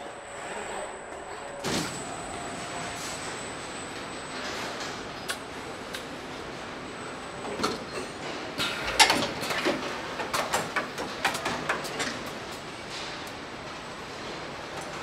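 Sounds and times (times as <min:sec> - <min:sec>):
factory hum: 0:00.0 - 0:15.0.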